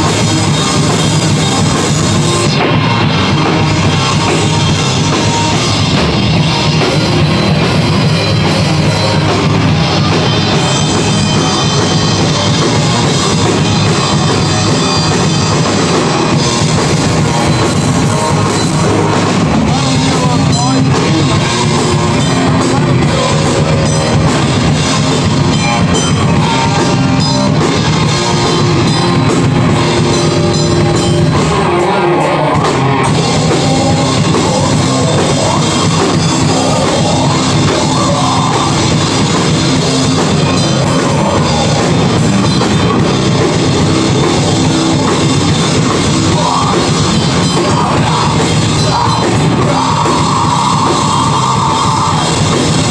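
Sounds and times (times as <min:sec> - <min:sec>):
distorted electric guitars: 0:00.0 - 0:52.9
pounding drum kit: 0:00.0 - 0:52.9.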